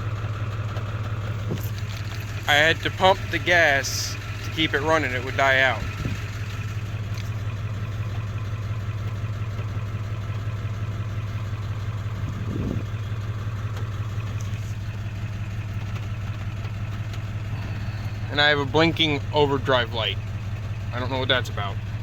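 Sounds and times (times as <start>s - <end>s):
diesel engine idling roughly: 0.0s - 22.0s.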